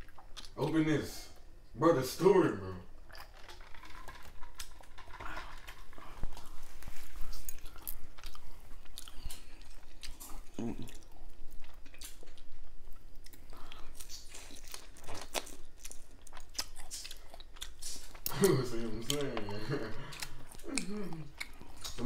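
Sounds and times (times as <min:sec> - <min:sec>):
chewing and crunching food: 0:00.0 - 0:01.5, 0:03.0 - 0:22.0.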